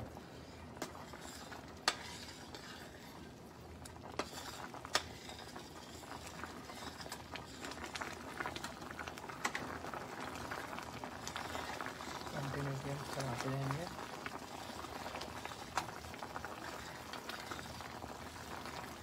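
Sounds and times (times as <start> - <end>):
curry bubbling in a pan: 0.0 - 19.0
spatula stirring: 0.1 - 19.0.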